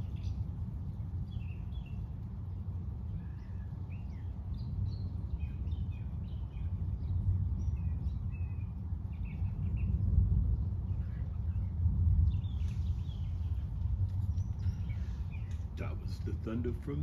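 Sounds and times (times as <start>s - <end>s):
birds chirping: 0.0s - 17.0s
low rumbling noise: 0.0s - 17.0s.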